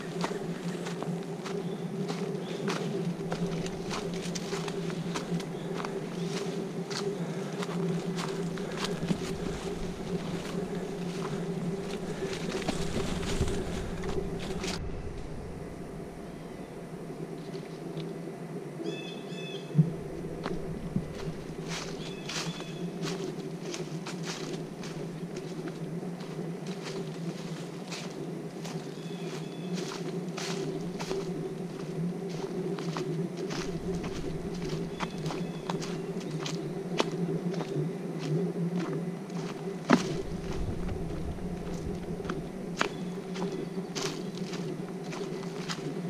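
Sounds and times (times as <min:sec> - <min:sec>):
footsteps crunching on trail: 0:00.0 - 0:18.1, 0:18.9 - 0:46.0
steady low hum: 0:00.0 - 0:46.0.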